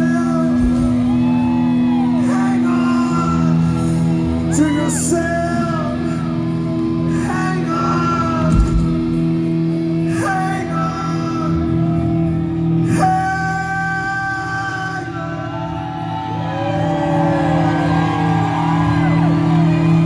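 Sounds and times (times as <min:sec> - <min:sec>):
singer holding long notes: 0:00.0 - 0:20.0.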